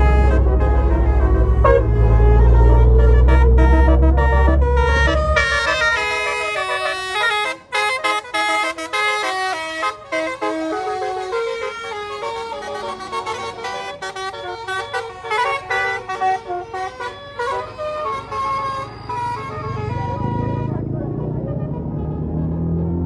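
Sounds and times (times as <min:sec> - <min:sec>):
bus engine running low: 0:00.0 - 0:23.0
bus melody horn: 0:00.0 - 0:23.0.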